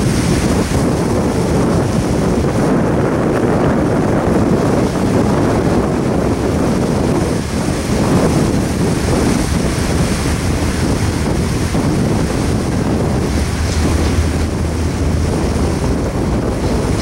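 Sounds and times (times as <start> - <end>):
train wheels rumbling on rail: 0.0 - 17.0
wind buffeting microphone: 0.0 - 17.0.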